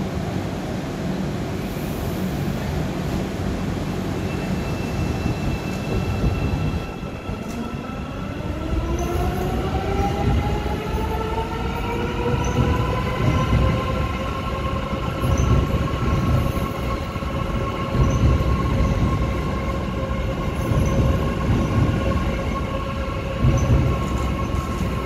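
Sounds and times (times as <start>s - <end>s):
metro train pulling away: 0.0s - 25.0s.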